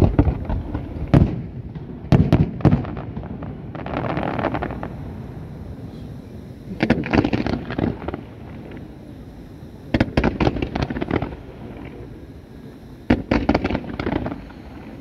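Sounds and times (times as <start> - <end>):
fireworks cracks and bangs: 0.0 - 9.0, 9.8 - 12.2, 13.1 - 15.0.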